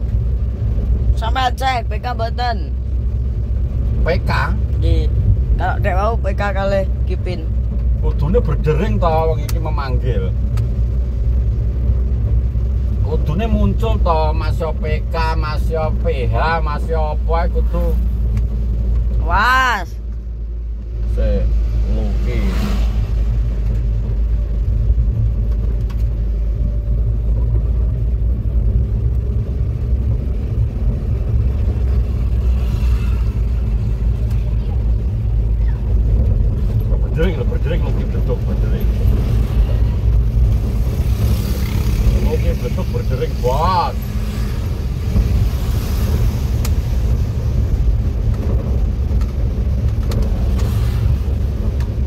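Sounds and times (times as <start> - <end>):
vehicle engine and road rumble: 0.0 - 52.0.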